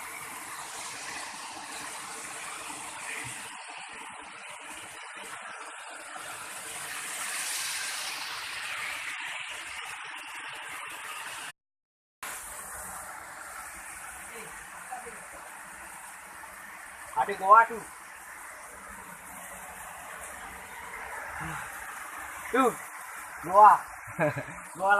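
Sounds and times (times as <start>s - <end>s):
waterfall rushing hiss: 0.0s - 11.5s, 12.2s - 24.9s.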